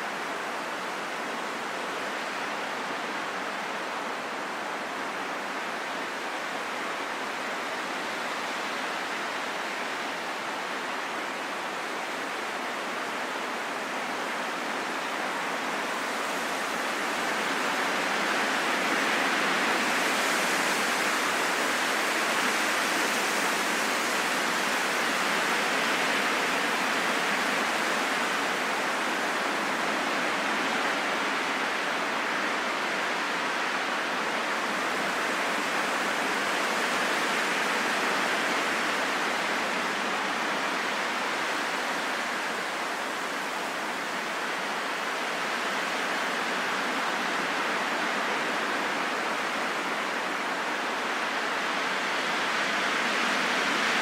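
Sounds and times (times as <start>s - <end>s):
steady rain in a forest: 0.0s - 54.0s.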